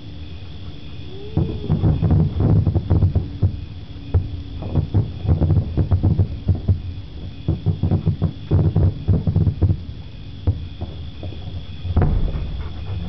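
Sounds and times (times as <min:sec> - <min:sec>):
fireworks bangs and pops: 0:01.4 - 0:13.0.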